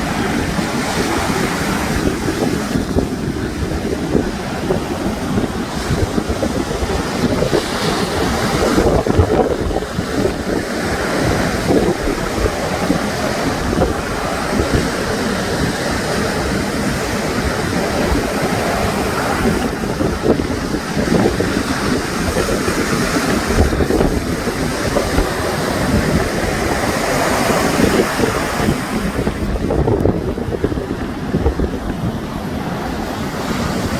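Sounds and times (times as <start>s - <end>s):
sea waves breaking on shore: 0.0s - 33.9s
wind buffeting microphone: 0.0s - 33.9s.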